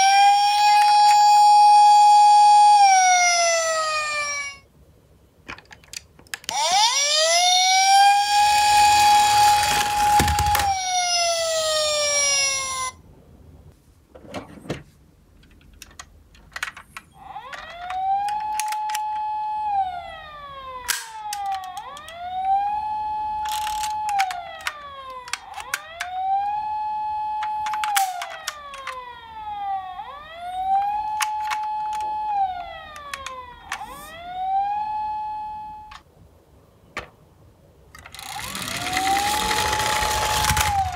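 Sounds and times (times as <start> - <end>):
toy siren wailing: 0.0 - 4.7, 6.5 - 13.0, 17.1 - 36.0, 38.1 - 40.9.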